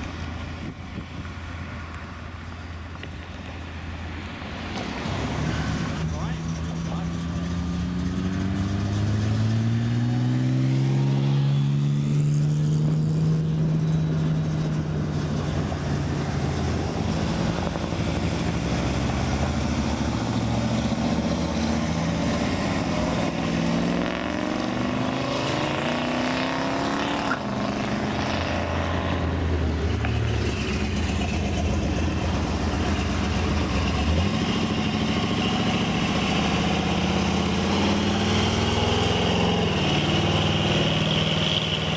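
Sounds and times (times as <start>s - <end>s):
car engines driving past: 0.0s - 41.9s.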